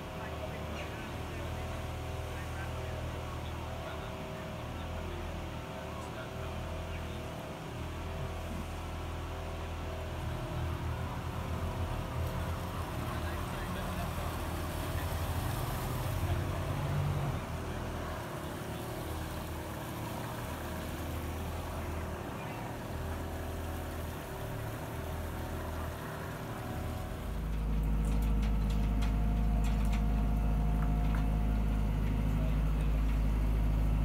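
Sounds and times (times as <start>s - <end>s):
tractor engine low drone: 0.0s - 34.0s.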